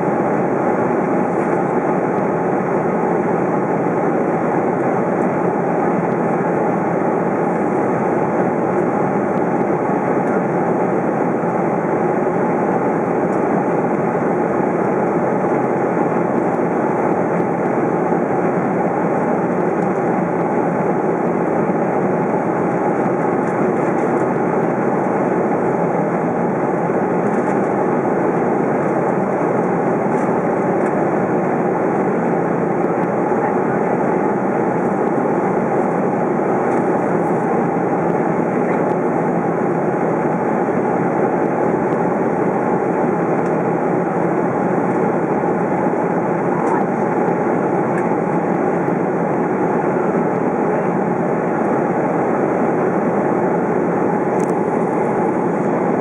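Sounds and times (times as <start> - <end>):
airplane cabin noise: 0.0 - 56.0.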